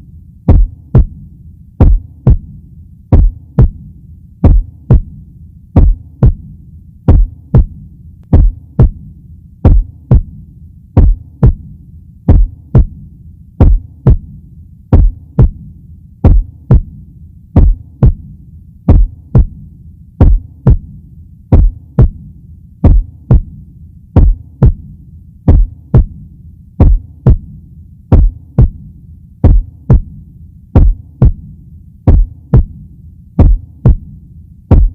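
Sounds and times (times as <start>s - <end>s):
low steady hum: 0.0s - 34.9s
heartbeat thumps: 0.5s - 1.2s, 1.8s - 5.2s, 5.8s - 10.4s, 11.0s - 11.7s, 12.3s - 13.0s, 13.6s - 17.0s, 17.6s - 19.6s, 20.2s - 23.6s, 24.2s - 26.2s, 26.8s - 30.2s, 30.8s - 34.9s.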